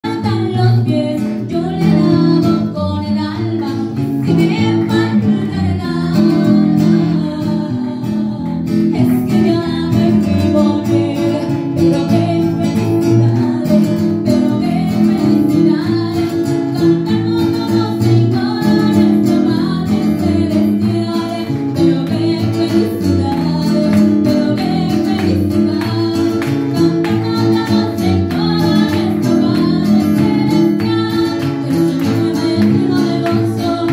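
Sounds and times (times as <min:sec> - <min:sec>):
acoustic guitar: 0:00.0 - 0:33.9
woman singing: 0:00.0 - 0:33.9.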